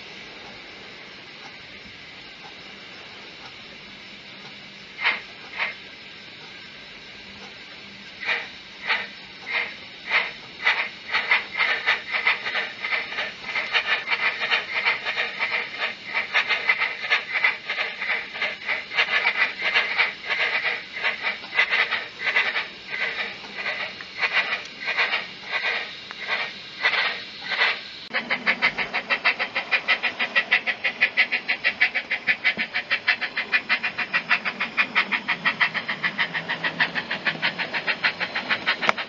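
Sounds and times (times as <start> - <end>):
model locomotive steam chuffs: 0.0 - 39.0.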